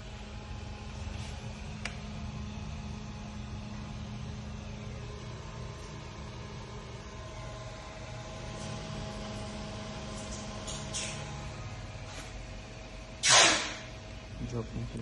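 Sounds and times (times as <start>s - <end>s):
electrical machine hum: 0.0s - 15.0s.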